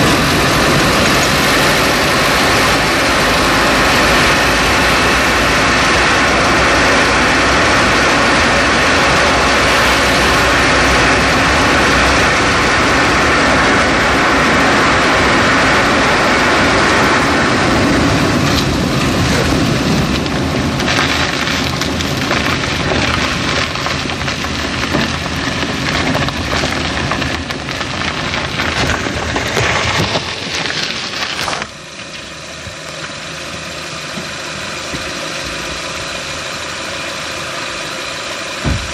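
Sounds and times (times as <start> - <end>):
engine idling: 0.0 - 38.9
tyre and road noise: 0.0 - 38.9.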